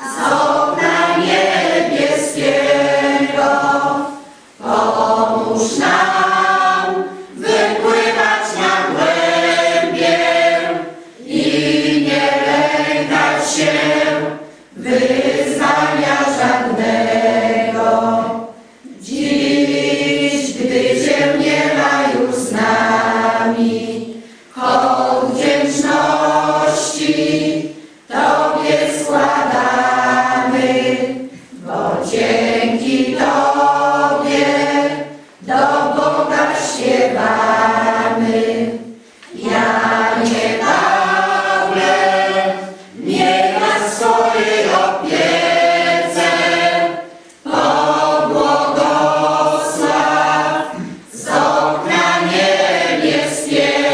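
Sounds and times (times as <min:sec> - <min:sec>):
choir breathing: 0:00.0 - 0:53.9
choir singing: 0:00.0 - 0:53.9.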